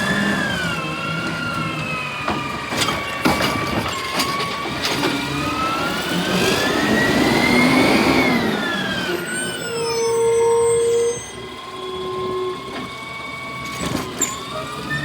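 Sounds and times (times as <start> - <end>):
garbage truck hydraulic whine: 0.0 - 15.0.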